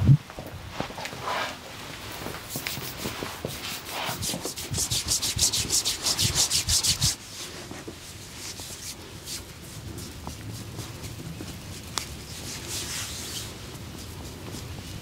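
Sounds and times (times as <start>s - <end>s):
hands rubbing skin: 2.2s - 15.0s.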